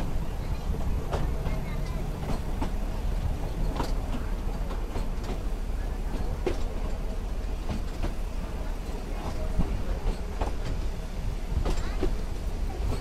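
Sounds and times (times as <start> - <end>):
wheels clicking and knocking: 0.0 - 10.8, 11.6 - 13.0
train carriage rumbling: 0.0 - 13.0.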